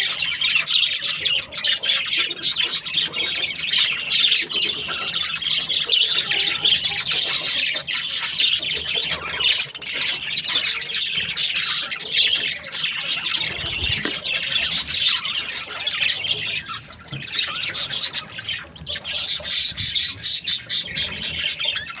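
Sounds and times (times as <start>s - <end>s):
budgerigars chirping and squawking: 0.0s - 22.0s.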